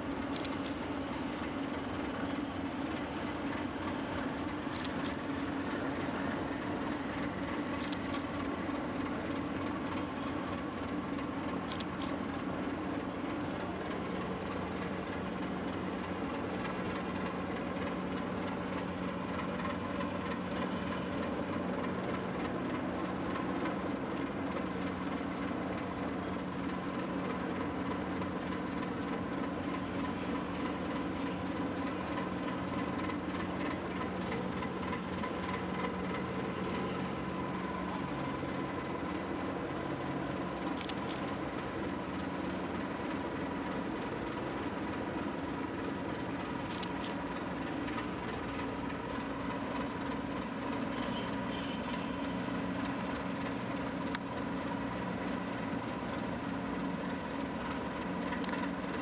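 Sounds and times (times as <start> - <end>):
ship engines droning: 0.0 - 59.0.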